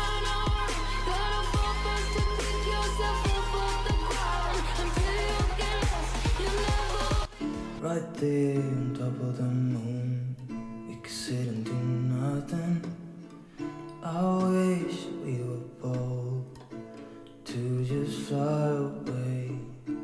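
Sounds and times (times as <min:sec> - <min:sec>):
pop song with strummed acoustic guitar: 0:00.0 - 0:20.0.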